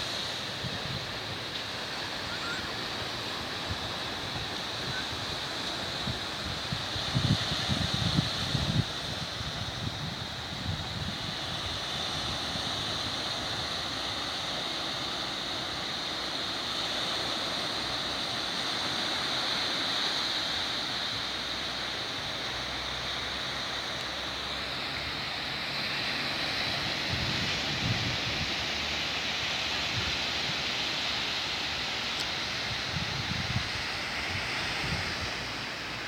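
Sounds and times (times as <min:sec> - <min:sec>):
sea waves washing on shore: 0:00.0 - 0:36.0.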